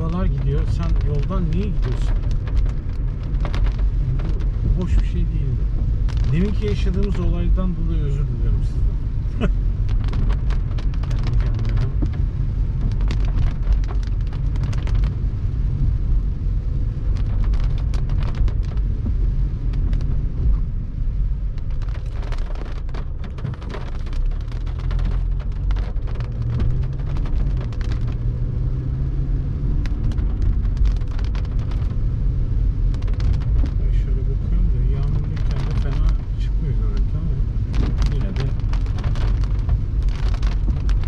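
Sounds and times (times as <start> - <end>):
car driving in rain: 0.0 - 41.0
rain ticking: 0.0 - 41.0
wind rumble on microphone: 0.0 - 41.0.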